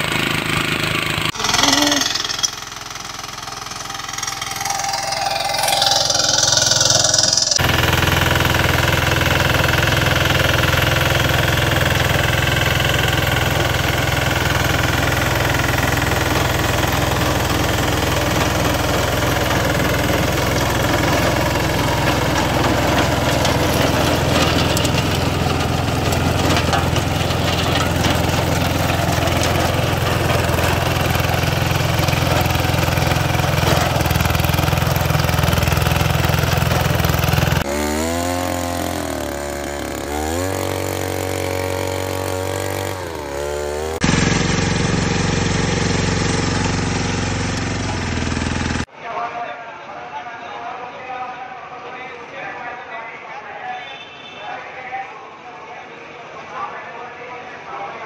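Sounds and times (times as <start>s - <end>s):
rotavator churning soil: 0.0s - 48.8s
power tiller engine running: 0.0s - 48.9s
tractor diesel engine under load: 0.0s - 48.9s.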